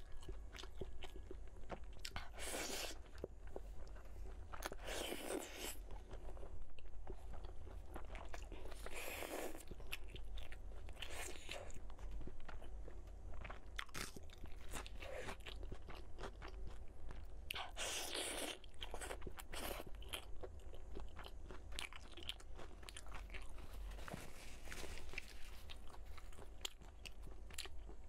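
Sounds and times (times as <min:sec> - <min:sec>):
chewing and crunching food: 0:00.0 - 0:28.0.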